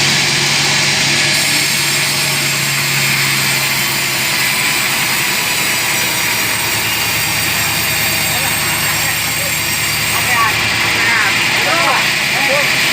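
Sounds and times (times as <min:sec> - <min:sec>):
sawmill saw running: 0:00.0 - 0:12.9.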